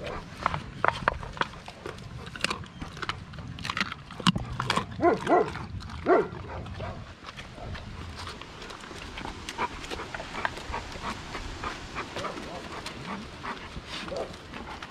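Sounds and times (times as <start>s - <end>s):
dog chewing meat: 0.0s - 14.9s.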